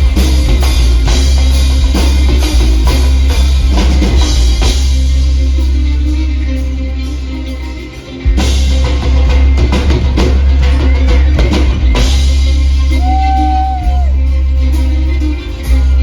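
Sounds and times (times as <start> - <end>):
drum kit: 0.0 - 16.0
folk-rock band playing: 0.0 - 16.0
heavy bass line: 0.0 - 16.0.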